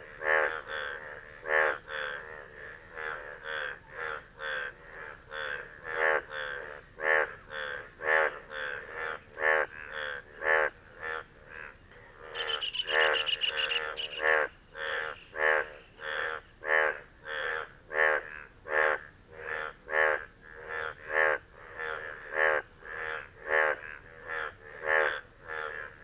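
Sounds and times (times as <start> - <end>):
bullfrog croaking: 0.0 - 26.0.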